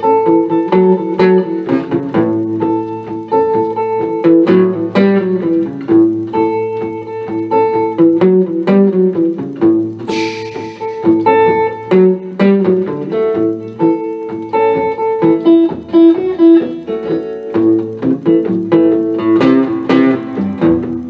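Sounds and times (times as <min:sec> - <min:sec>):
guitar picking quick notes: 0:00.0 - 0:21.0.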